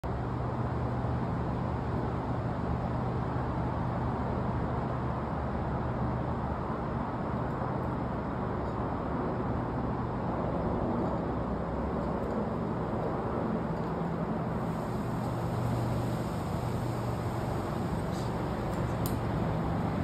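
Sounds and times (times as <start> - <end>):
faint constant hum: 0.0 - 20.0
low outdoor rumble: 0.0 - 20.0.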